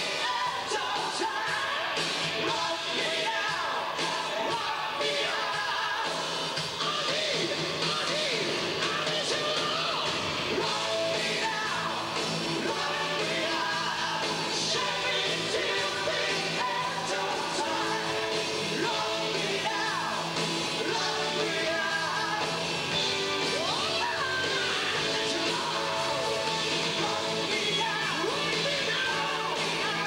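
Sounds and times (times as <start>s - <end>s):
live hard rock band: 0.0s - 30.0s
man singing lead vocals: 0.0s - 30.0s.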